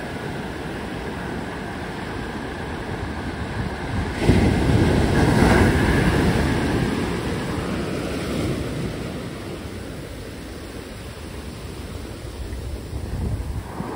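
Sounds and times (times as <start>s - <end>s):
foamy wash running up sand: 0.0s - 13.9s
ocean surf breaking: 0.0s - 13.9s.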